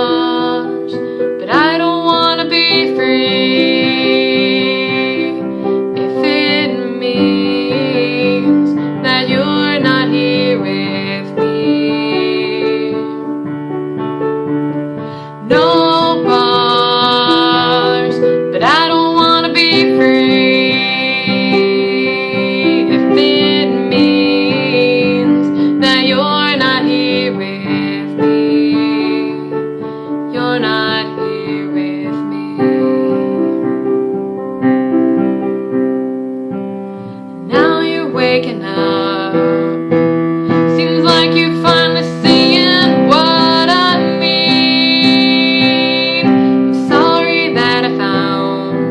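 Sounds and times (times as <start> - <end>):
woman singing: 0.0 - 34.5, 37.1 - 48.9
piano chords: 0.0 - 48.9.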